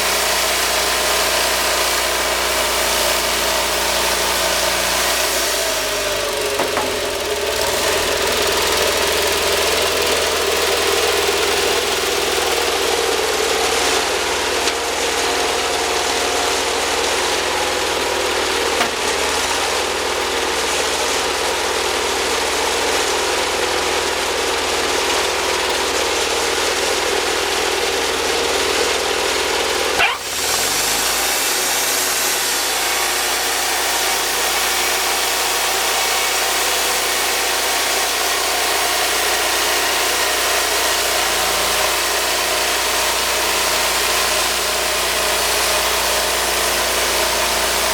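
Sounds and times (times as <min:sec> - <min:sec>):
portable sawmill running: 0:00.0 - 0:47.9.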